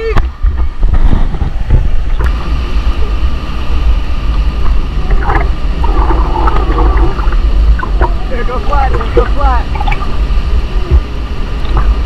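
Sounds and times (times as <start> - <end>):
rush of falling water: 0.0 - 12.0
wind buffeting microphone: 0.0 - 12.0.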